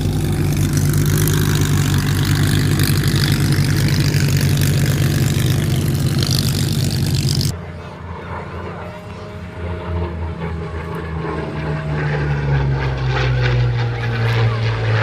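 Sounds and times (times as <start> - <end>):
propeller aircraft engine running: 0.0 - 15.0.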